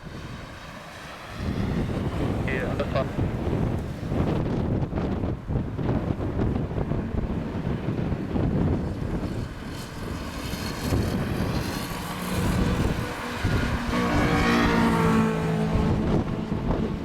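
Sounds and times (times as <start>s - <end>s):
jet engines running: 0.0s - 17.0s
rising engine whine: 0.0s - 17.0s
wind buffeting on microphone: 0.0s - 17.0s.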